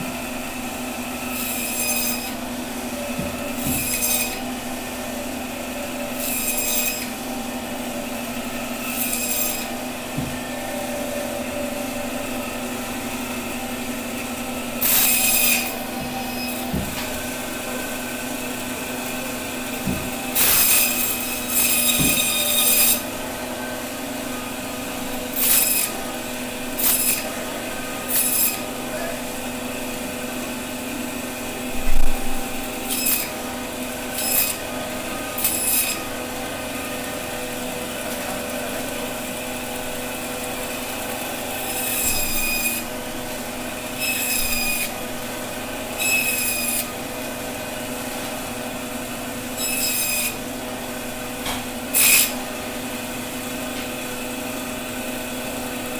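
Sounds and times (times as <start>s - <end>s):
band saw humming: 0.0s - 55.9s.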